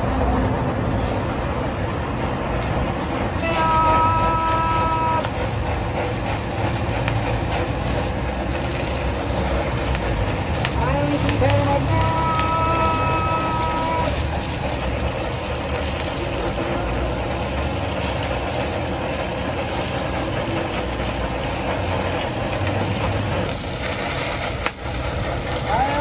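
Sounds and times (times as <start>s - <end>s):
blowtorch flame hissing: 0.0s - 26.0s
oil sizzling in a pan: 2.1s - 26.0s.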